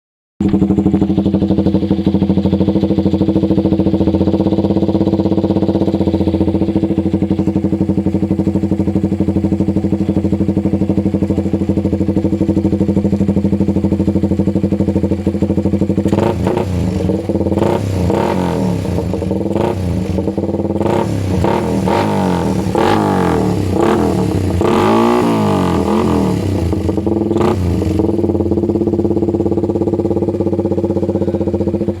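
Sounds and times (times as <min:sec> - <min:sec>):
motorcycle idling: 0:00.4 - 0:32.0
motorcycle throttle blips: 0:00.4 - 0:32.0.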